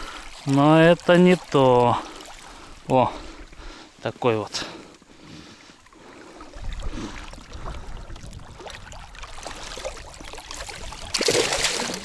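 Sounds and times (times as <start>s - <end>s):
river water lapping on boat: 0.0s - 12.0s.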